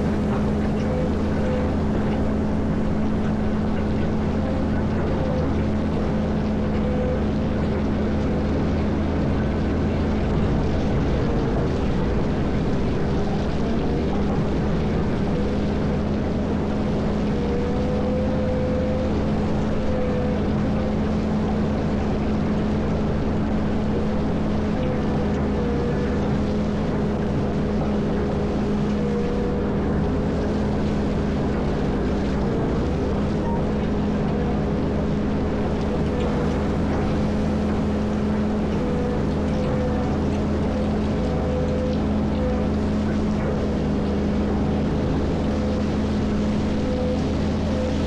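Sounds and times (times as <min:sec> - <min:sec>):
diesel engine deep drone: 0:00.0 - 0:48.0
thin wavering whine: 0:00.0 - 0:48.0.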